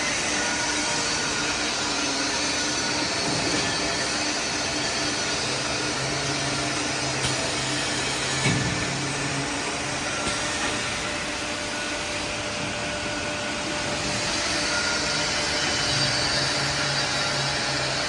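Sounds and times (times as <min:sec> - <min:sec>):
machine steady blowing noise: 0:00.0 - 0:18.0.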